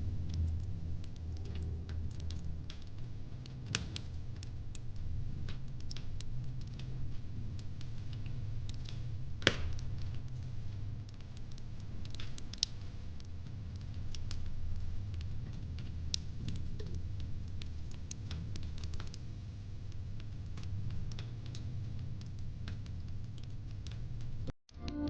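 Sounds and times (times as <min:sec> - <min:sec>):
wood fire crackling: 0:00.0 - 0:24.5
low steady rumble: 0:00.0 - 0:25.0.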